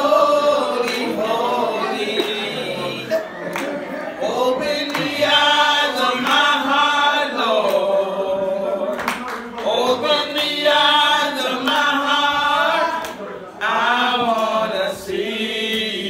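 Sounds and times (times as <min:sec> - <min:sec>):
women singing gospel: 0:00.0 - 0:16.0.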